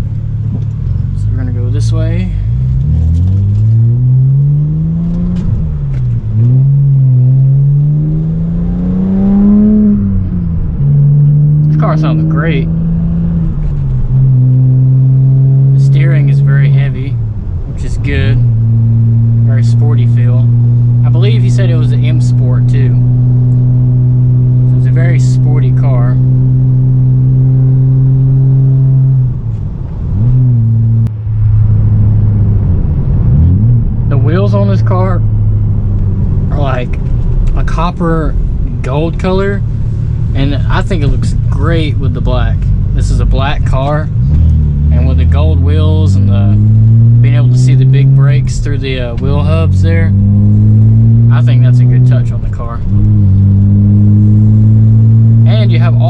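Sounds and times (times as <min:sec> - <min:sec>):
car engine accelerating through gears: 0:00.0 - 0:56.0.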